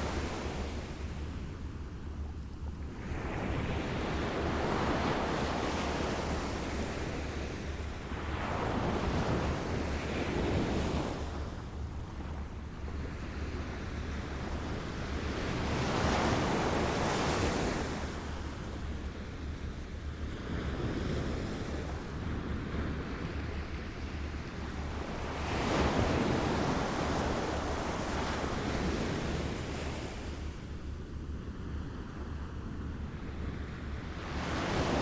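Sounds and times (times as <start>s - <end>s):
wind rumble on microphone: 0.0s - 35.0s.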